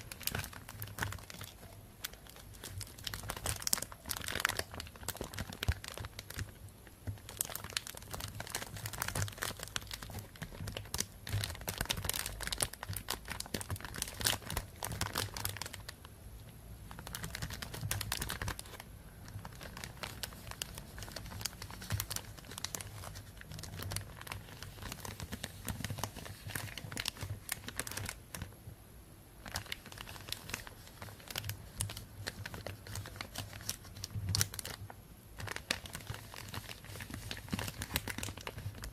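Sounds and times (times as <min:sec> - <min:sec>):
plastic bag crinkling: 0:00.0 - 0:16.0, 0:16.9 - 0:28.6, 0:29.4 - 0:38.9.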